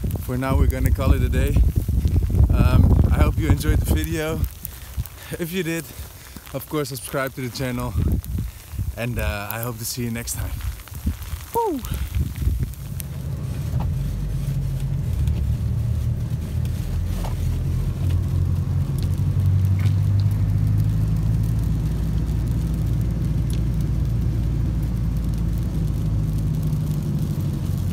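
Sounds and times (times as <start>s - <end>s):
engine and road noise rumble: 0.0s - 27.9s.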